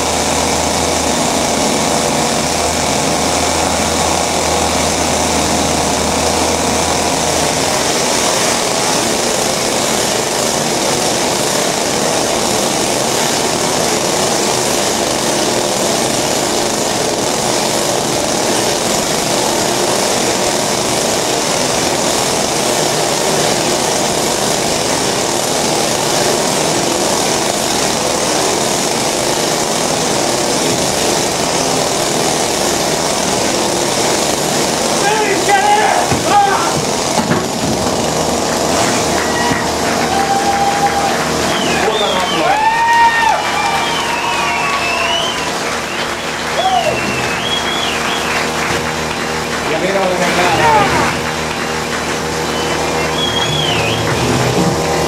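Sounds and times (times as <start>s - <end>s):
chainsaws running: 0.0s - 55.0s.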